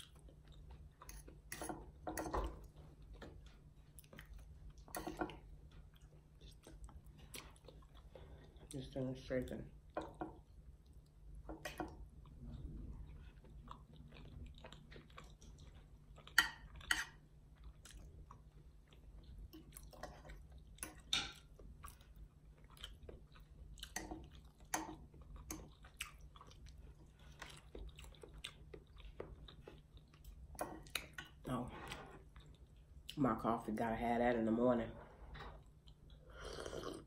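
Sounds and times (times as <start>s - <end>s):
person chewing soft food: 0.0s - 8.8s, 9.5s - 33.2s, 35.5s - 37.0s.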